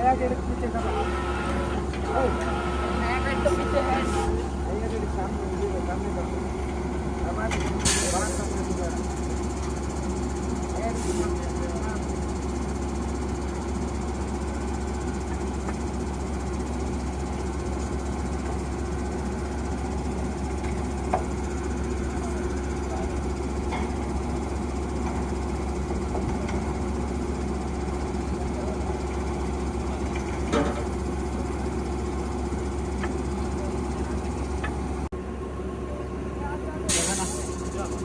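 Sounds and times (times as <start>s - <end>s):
drilling rig engine drone: 0.0s - 38.0s.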